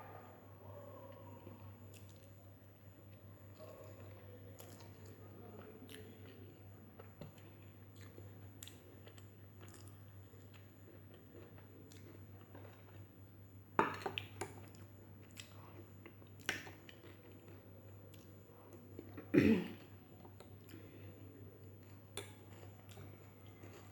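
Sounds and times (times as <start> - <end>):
person chewing food: 1.2 - 5.2, 5.8 - 23.9.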